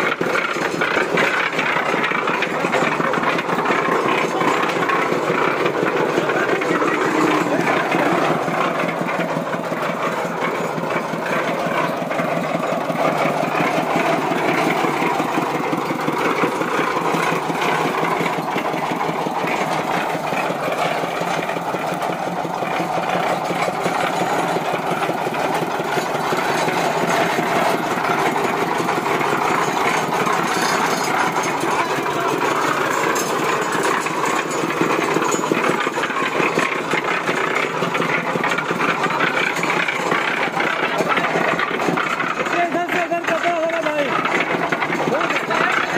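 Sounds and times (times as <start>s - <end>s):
cement mixer engine running: 0.0s - 45.9s.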